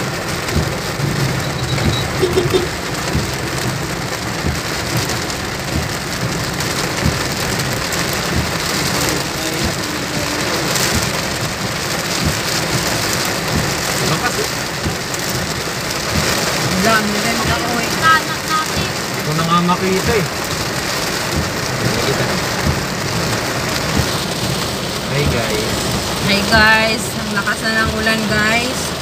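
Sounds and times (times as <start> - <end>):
heavy rain on car roof: 0.0 - 29.0.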